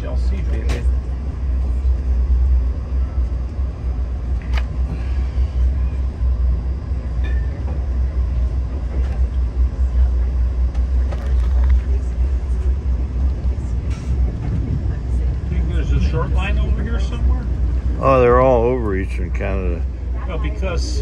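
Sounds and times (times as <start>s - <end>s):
railcar rumbling at speed: 0.0s - 21.0s.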